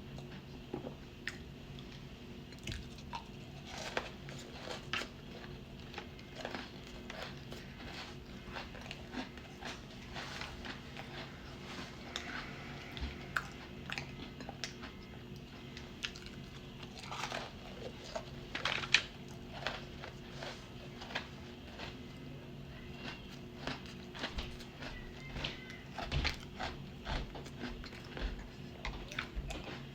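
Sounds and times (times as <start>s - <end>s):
chewing and crunching cookies: 0.0s - 29.9s.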